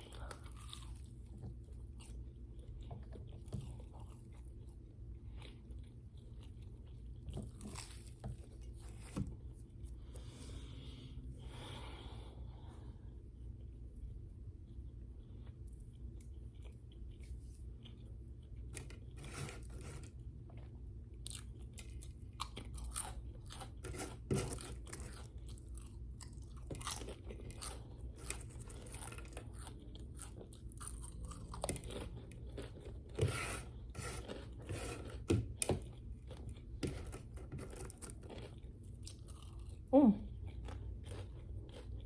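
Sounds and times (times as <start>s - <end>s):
chewing crisp food: 0.0s - 10.3s, 13.2s - 42.0s.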